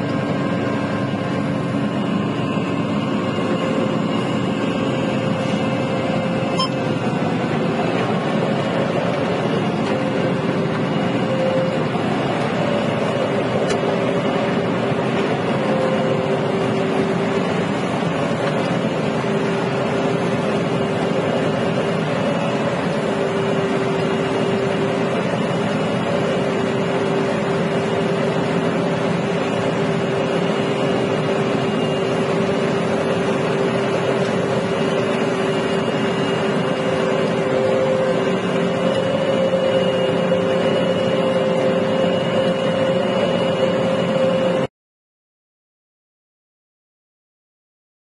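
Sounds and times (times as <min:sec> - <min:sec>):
combine harvester droning: 0:00.0 - 0:44.7.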